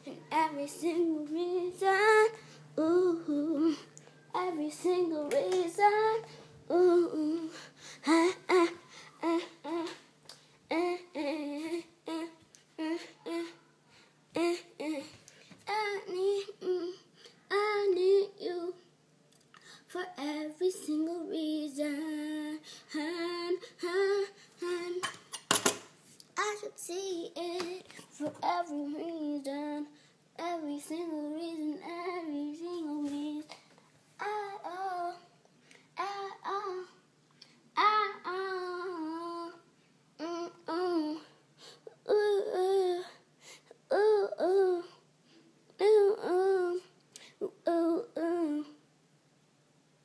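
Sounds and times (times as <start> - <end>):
child singing wordless notes: 0.0 - 10.0, 10.7 - 18.9, 19.9 - 25.1, 26.4 - 33.6, 34.2 - 35.4, 36.0 - 37.1, 37.7 - 41.4, 43.9 - 45.0, 45.8 - 48.8.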